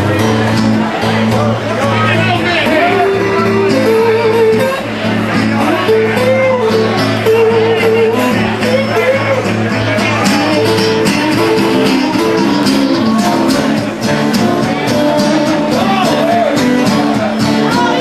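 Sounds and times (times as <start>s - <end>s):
lead guitar bent notes: 0.0s - 18.0s
strummed blues guitar: 0.0s - 18.0s.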